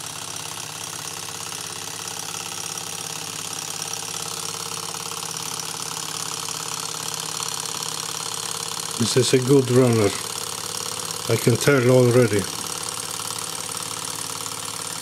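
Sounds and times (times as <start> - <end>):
hot-air engine clattering: 0.0 - 15.0.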